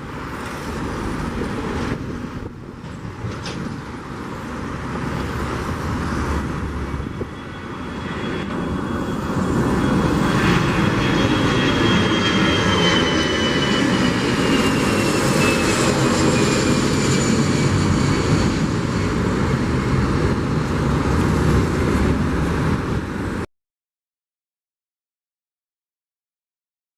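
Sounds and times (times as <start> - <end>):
airliner engines roaring: 0.0 - 23.5.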